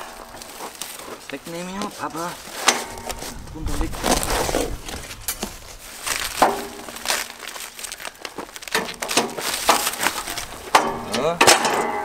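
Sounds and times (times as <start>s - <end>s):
plastic wrap crinkling: 0.0s - 10.8s.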